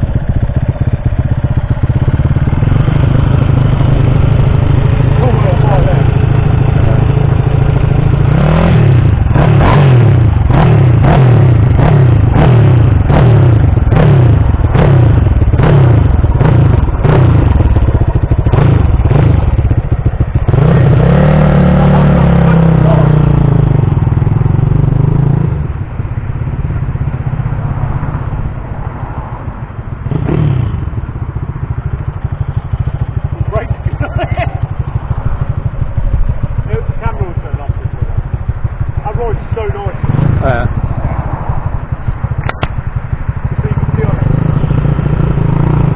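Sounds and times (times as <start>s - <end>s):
engine idling: 0.0s - 28.6s, 30.8s - 45.9s
minibike engine revving: 0.0s - 29.3s, 30.0s - 45.9s.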